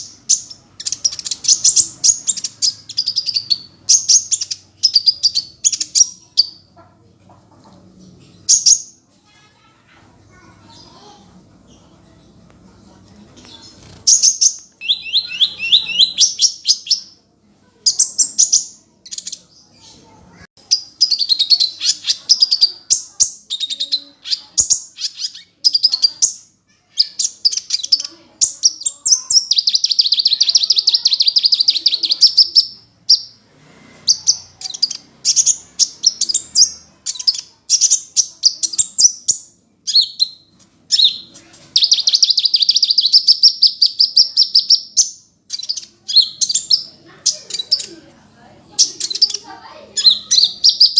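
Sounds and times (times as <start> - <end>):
sunbird singing chattering trills: 0.0 - 6.7, 13.8 - 17.2, 17.9 - 33.4, 34.1 - 48.0, 48.7 - 50.9.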